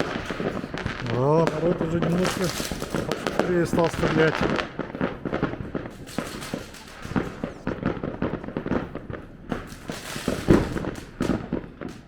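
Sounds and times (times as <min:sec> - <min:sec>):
fireworks and firecrackers banging: 0:00.0 - 0:12.0.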